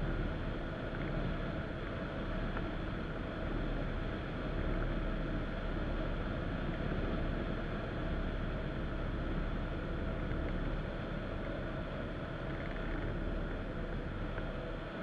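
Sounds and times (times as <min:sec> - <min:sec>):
muffled wind on microphone: 0:00.0 - 0:15.0.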